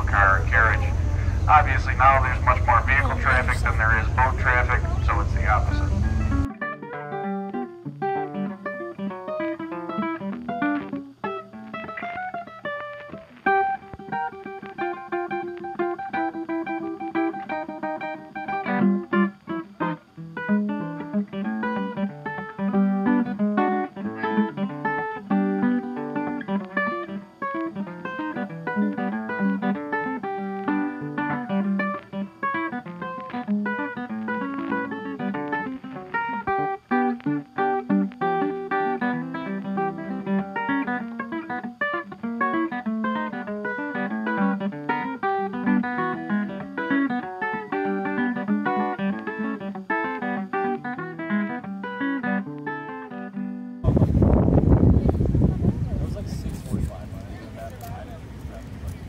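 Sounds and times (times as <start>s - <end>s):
acoustic guitar plucking: 0.0s - 59.0s.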